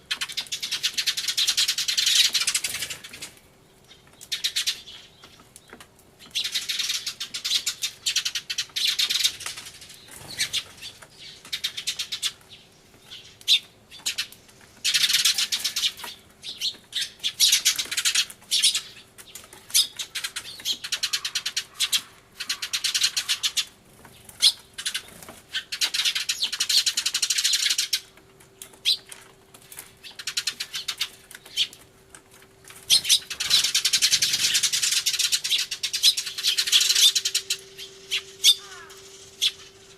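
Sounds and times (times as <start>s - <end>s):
sparrows chirping: 0.0s - 31.8s, 32.6s - 39.9s.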